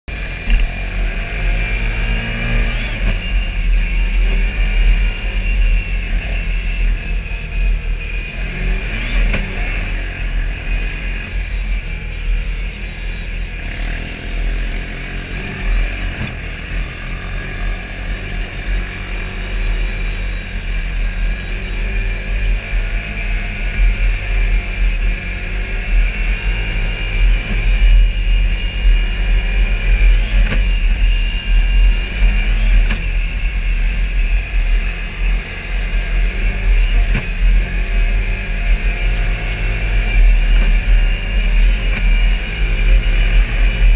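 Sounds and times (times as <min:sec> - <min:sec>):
engine running with revving: 0:00.0 - 0:43.9.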